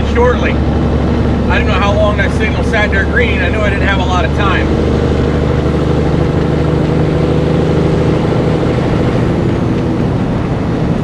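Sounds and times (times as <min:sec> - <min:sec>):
road noise: 0:00.0 - 0:11.0
truck diesel engine running: 0:00.0 - 0:11.0.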